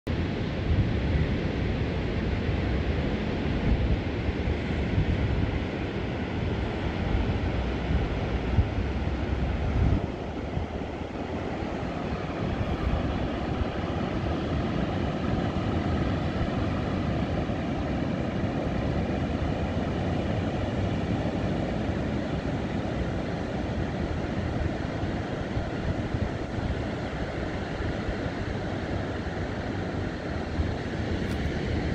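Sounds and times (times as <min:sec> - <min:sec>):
ocean surf breaking: 0:00.1 - 0:31.9
wind buffeting microphone: 0:00.1 - 0:31.9.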